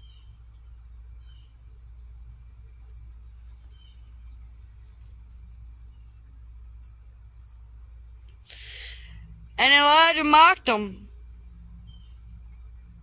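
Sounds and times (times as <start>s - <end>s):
chirring insects: 0.0s - 13.0s.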